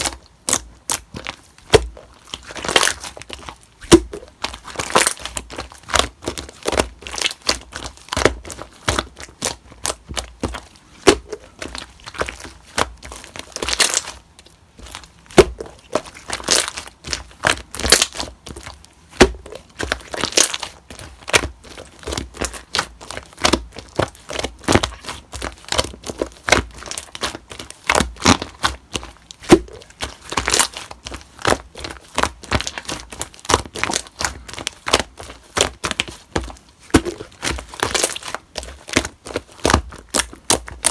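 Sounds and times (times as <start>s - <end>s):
slime squished by hand: 0.0s - 40.9s.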